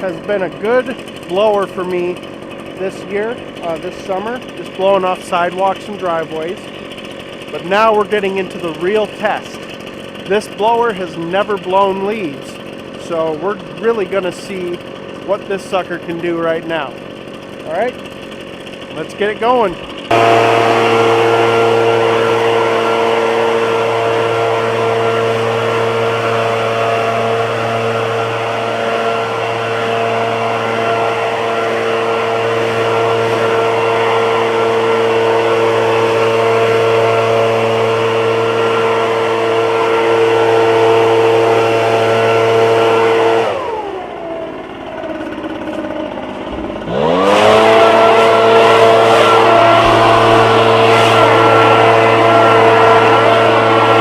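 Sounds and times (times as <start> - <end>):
leaf blower engine running: 0.0 - 54.0.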